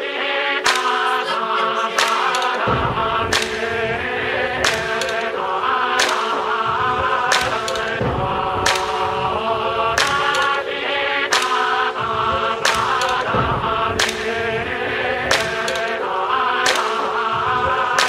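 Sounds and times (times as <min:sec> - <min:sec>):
song with sung vocals: 0:00.0 - 0:18.0.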